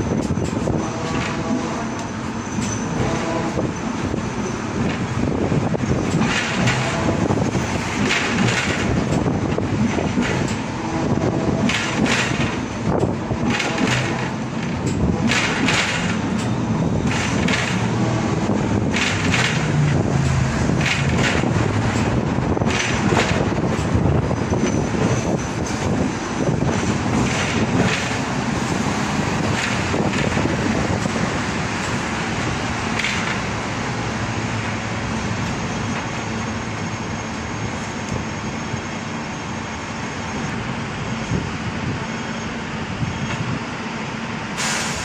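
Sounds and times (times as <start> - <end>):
tram body rattling: 0.0 - 45.0
tram wheels rumbling on rail: 0.0 - 45.0.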